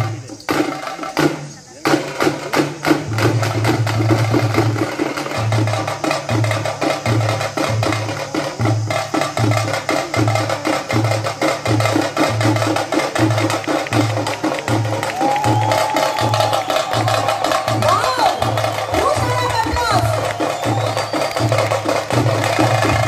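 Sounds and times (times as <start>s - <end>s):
deep drum beat: 0.0s - 23.0s
wood-block-like strikes: 0.0s - 23.0s.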